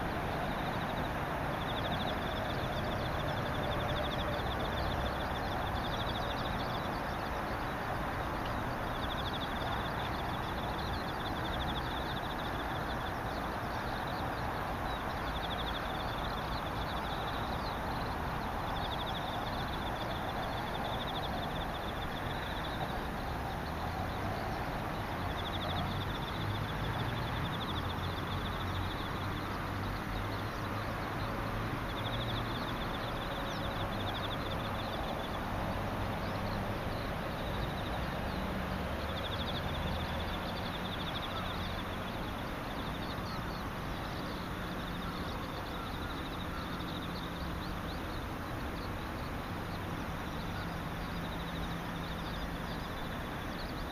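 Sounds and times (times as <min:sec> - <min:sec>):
steady outdoor hiss: 0:00.0 - 0:53.9.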